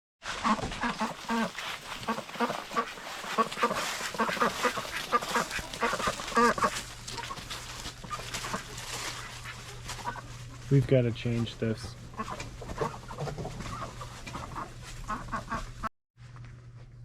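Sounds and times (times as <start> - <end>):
poultry squawking and quacking: 0.3 - 10.7, 11.9 - 15.9
faint low hum: 0.8 - 17.0.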